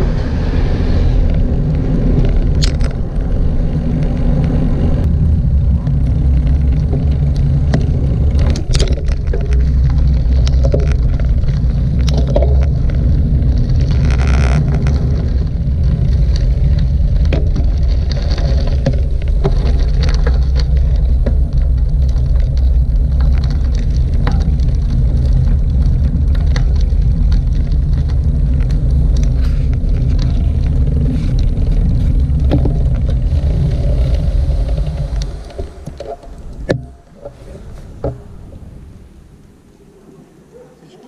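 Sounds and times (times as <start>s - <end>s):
bicycle tyre noise: 0.0s - 39.4s
wind rumbling on microphone: 0.0s - 40.7s.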